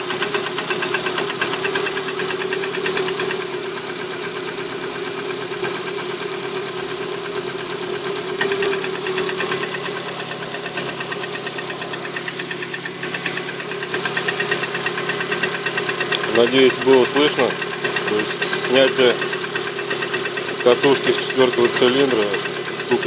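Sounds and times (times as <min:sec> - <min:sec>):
car engine idling: 0:00.0 - 0:23.0
rhythmic piston knock: 0:00.1 - 0:04.5, 0:05.3 - 0:23.0.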